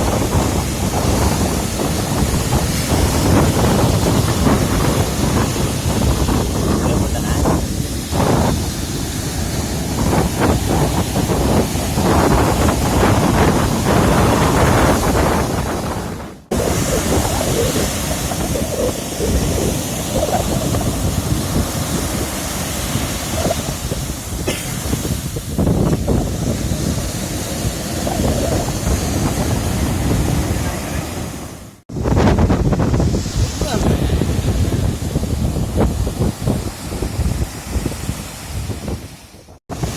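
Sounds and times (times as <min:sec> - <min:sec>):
waves breaking on shore: 0:00.0 - 0:39.9
wind buffeting microphone: 0:00.0 - 0:39.9.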